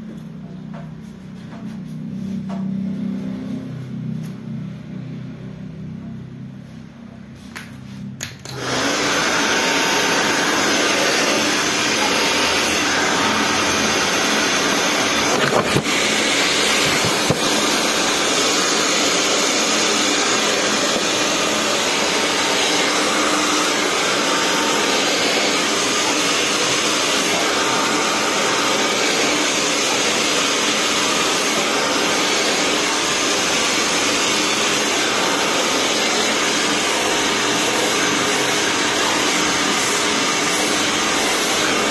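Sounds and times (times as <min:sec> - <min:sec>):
hair dryer blowing: 0:07.6 - 0:41.9.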